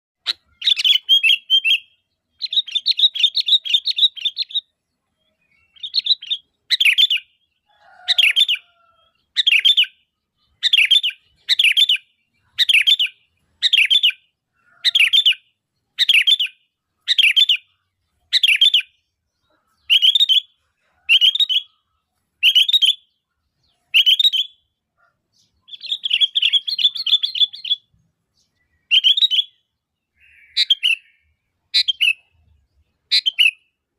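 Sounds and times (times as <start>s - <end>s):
bulbul calling: 0.2s - 33.8s.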